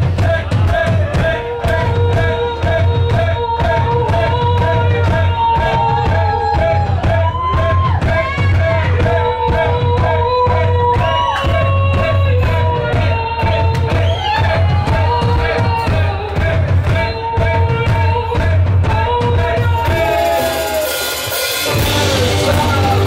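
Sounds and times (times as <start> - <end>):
drums and tambourine beat: 0.0 - 23.0
live band playing: 0.0 - 23.0
person singing: 0.0 - 23.0.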